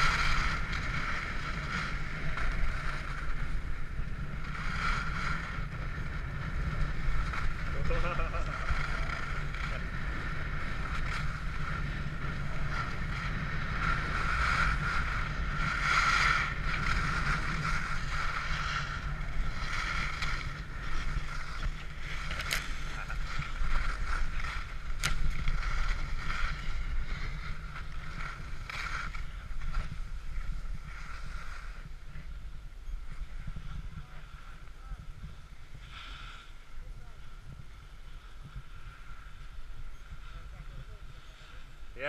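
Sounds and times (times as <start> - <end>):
skis hissing over snow: 0.0 - 42.0
wind buffeting microphone: 0.0 - 42.0.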